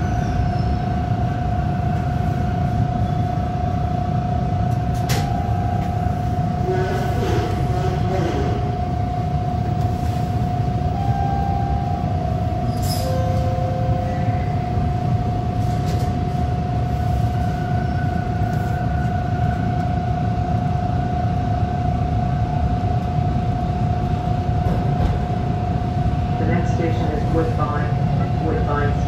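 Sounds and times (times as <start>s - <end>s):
subway train low rumble: 0.0s - 29.0s.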